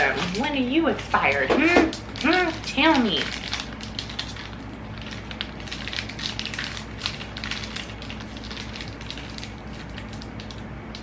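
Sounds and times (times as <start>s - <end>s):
food packaging crinkling: 0.0s - 11.0s
low steady hum: 0.0s - 11.0s.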